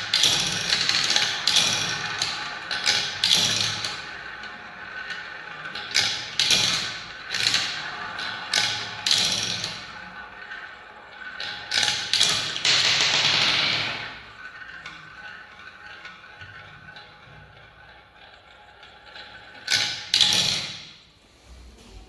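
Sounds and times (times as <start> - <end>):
marbles clacking on track: 0.0 - 20.8
marble rolling whirr: 0.0 - 20.9.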